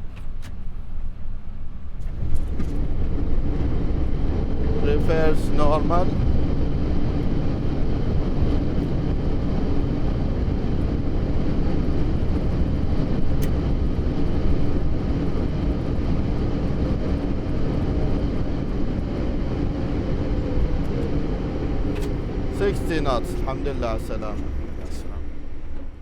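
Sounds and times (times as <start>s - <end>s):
jet engines in reverse thrust: 1.6s - 26.0s.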